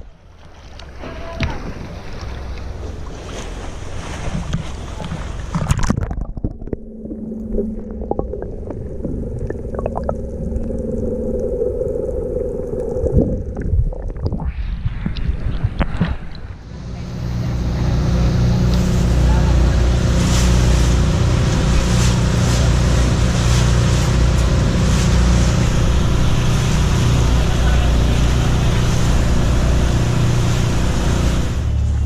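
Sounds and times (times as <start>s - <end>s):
boat engine hum: 0.0s - 14.5s, 15.2s - 32.0s
rush of wind and water: 0.0s - 32.0s.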